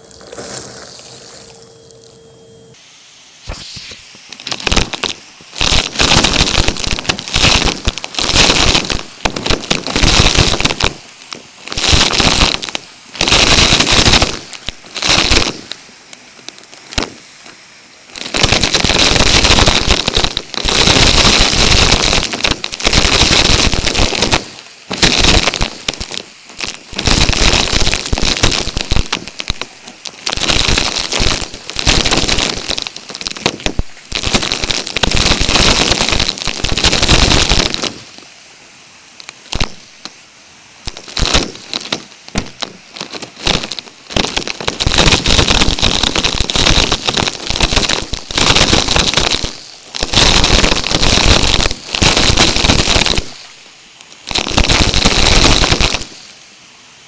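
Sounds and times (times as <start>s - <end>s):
vacuum cleaner sucking up debris: 0.0s - 1.6s, 2.8s - 38.3s, 40.9s - 53.6s.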